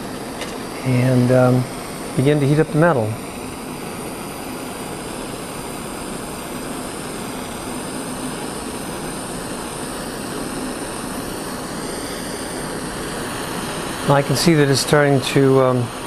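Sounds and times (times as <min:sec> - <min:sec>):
blowtorch flame hissing: 0:00.0 - 0:16.0.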